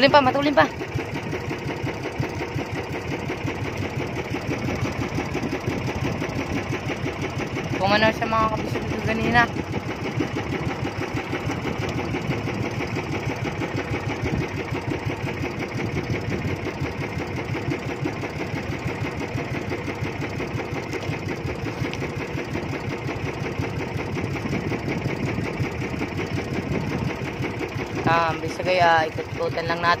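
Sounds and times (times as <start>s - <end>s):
boat engine puttering: 0.0s - 30.0s.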